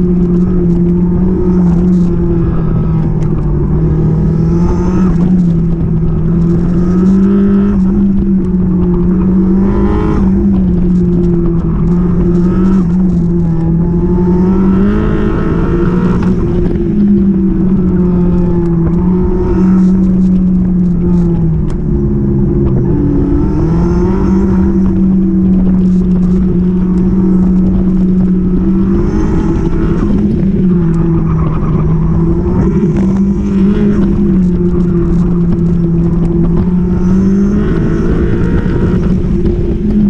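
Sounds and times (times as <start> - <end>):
car engine revving hard: 0.0 - 40.0.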